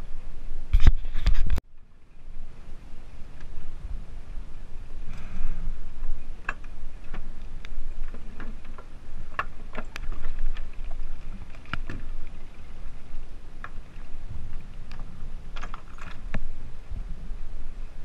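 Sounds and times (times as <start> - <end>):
steady low rumble: 1.6 - 18.0.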